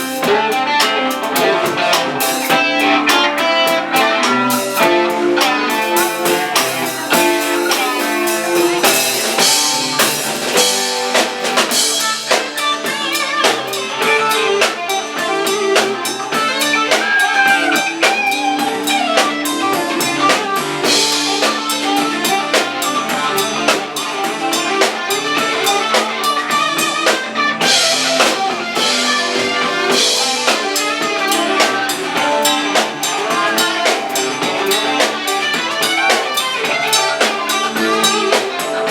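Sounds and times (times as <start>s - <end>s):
drum kit beat: 0.0s - 38.9s
electric guitar: 0.0s - 38.9s.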